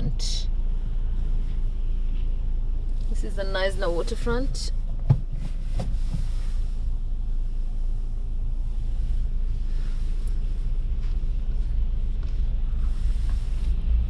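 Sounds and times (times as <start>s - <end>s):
car cabin engine and tyre rumble: 0.0s - 14.0s.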